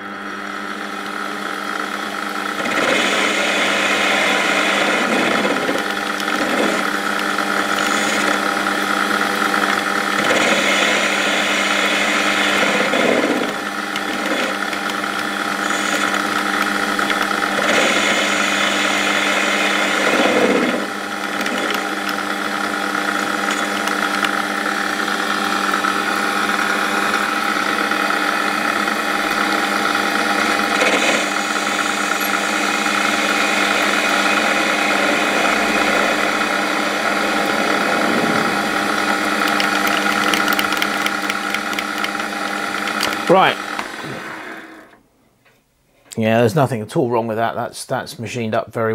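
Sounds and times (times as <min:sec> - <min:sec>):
lathe motor and gear whine: 0:00.0 - 0:45.1
cutting tool hiss: 0:02.1 - 0:45.0.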